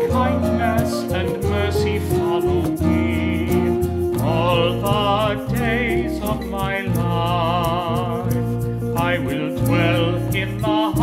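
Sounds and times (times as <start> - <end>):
low instrumental accompaniment: 0.0 - 11.0.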